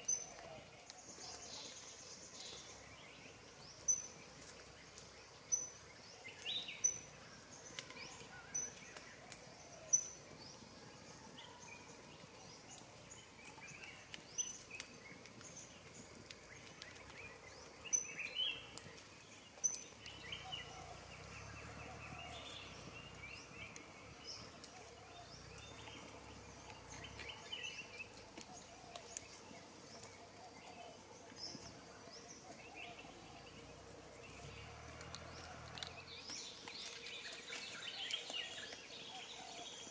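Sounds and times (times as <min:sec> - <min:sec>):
birds chirping: 0:00.0 - 0:39.9
faint outdoor background: 0:00.0 - 0:39.9.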